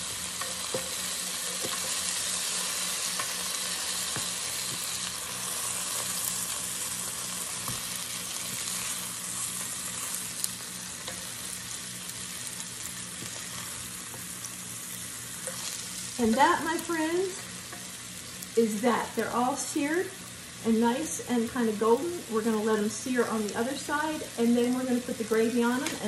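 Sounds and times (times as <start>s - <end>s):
meat patties sizzling in oil: 0.0s - 26.0s.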